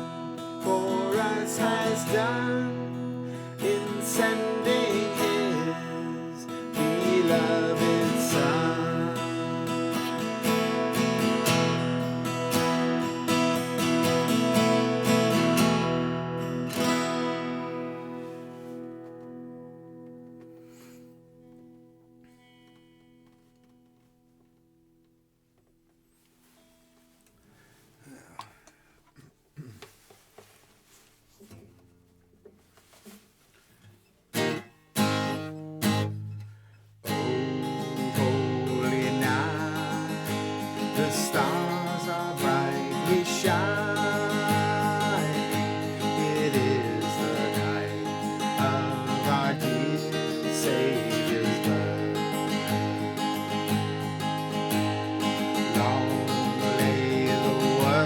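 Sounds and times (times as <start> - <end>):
acoustic guitar strummed chords: 0.0 - 25.1, 31.4 - 58.0.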